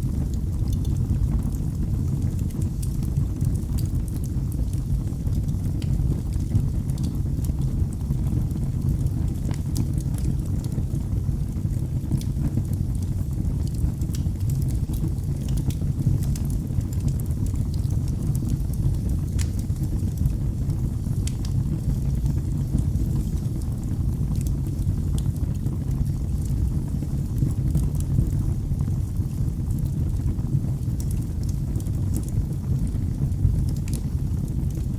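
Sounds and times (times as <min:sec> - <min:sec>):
low rumble of flames: 0:00.0 - 0:34.9
logs crackling and popping: 0:00.1 - 0:34.9.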